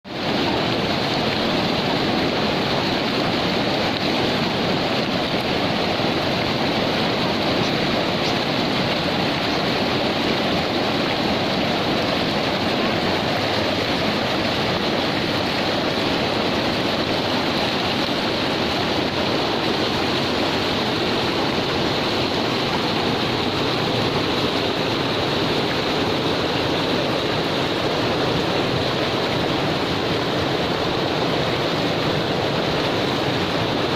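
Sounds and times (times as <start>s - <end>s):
river rushing over rocks: 0.1s - 33.9s.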